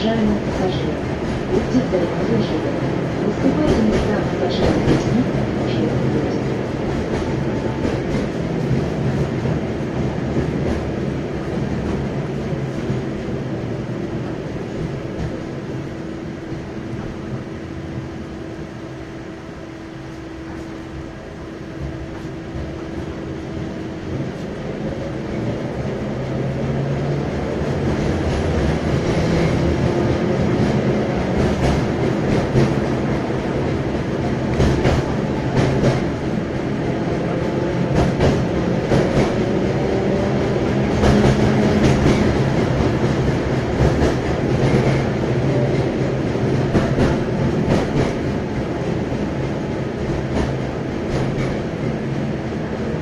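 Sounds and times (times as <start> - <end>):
tram wheels rumbling on rails: 0.0 - 53.0.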